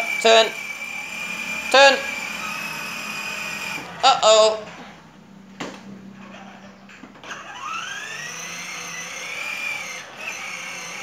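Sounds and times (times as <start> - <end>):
toy motorbike electric motor whining: 0.0 - 4.7, 6.2 - 11.0.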